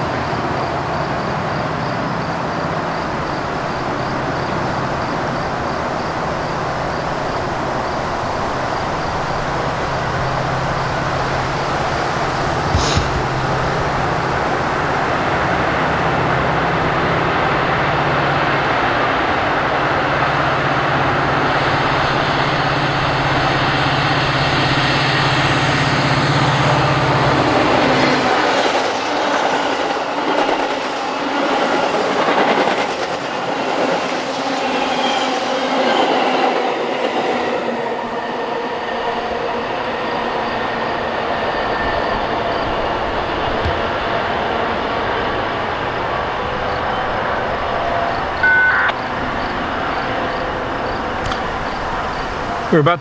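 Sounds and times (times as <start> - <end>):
train wheels rushing on rail: 0.0 - 48.4.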